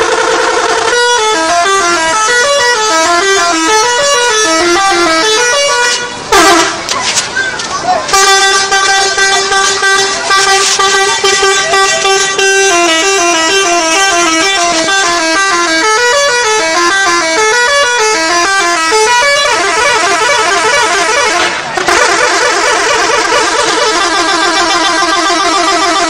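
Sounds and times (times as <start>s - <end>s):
bus musical horn: 0.0s - 7.0s, 8.1s - 26.0s.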